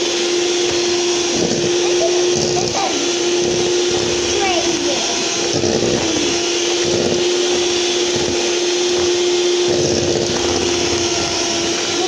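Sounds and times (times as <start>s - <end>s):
electric mixer humming: 0.0s - 12.0s.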